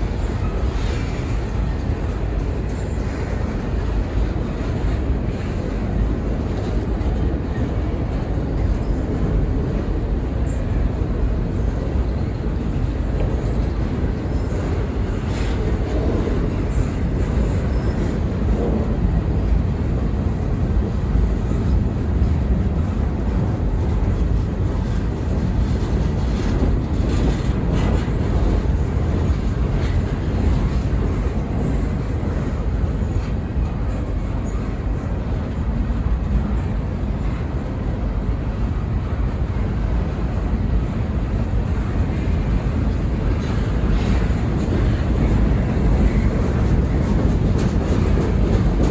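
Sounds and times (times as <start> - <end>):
freight train rumbling on track: 0.0 - 48.9.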